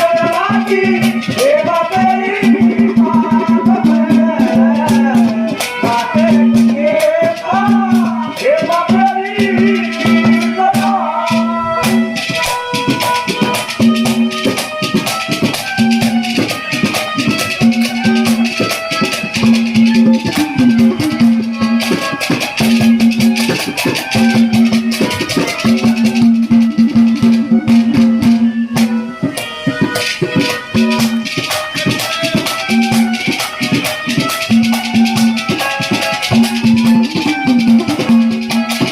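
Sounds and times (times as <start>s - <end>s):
fast jingling percussion: 0.0s - 38.9s.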